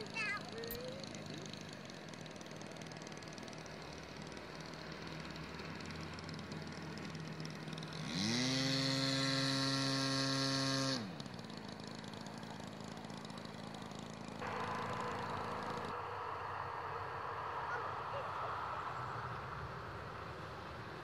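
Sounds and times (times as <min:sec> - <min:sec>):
faint steady engine: 0:00.0 - 0:21.0
model aircraft engine throttling up: 0:00.0 - 0:21.0.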